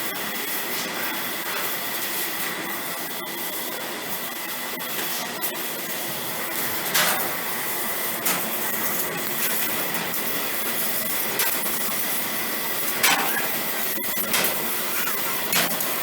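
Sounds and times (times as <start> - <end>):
laser cutting machine hissing: 0.0 - 16.0.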